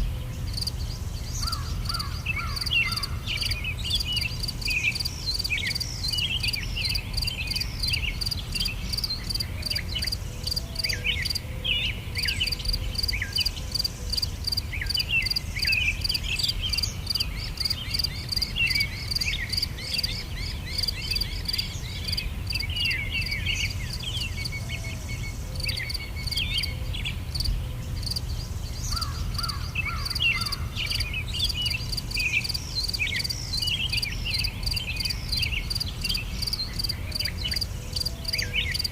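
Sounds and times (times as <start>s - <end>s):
insects trilling: 0.0s - 11.4s, 12.1s - 38.9s
low background noise: 0.0s - 38.9s
small birds chirping: 0.0s - 38.9s.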